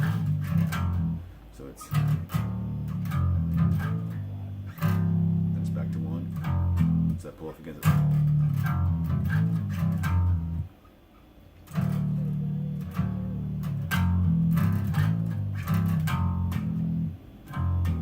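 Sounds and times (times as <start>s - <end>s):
bass guitar playing low notes: 0.0s - 10.8s, 11.6s - 18.0s.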